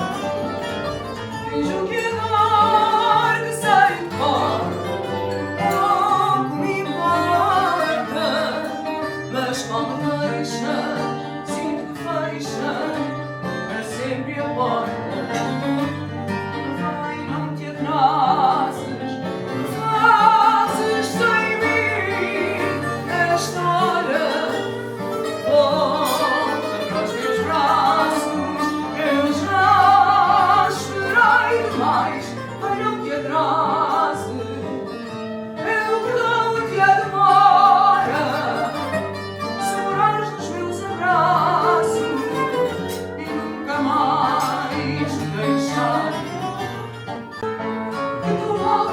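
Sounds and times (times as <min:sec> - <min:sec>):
person singing: 0:00.0 - 0:47.0, 0:48.2 - 0:48.9
guitar accompaniment: 0:00.0 - 0:48.9.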